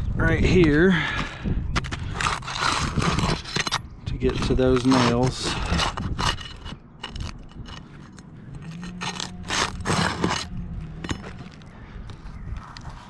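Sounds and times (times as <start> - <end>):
roof shingles scraping and crunching: 1.8 - 13.0.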